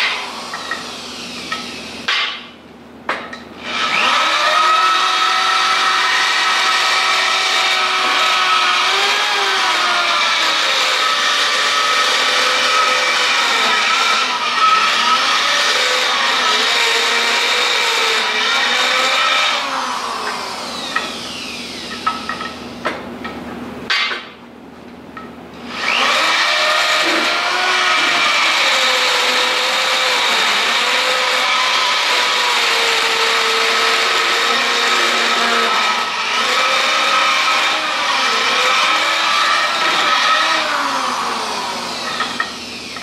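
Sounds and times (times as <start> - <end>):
electric drill cutting steel: 3.6 - 22.4, 25.7 - 43.0.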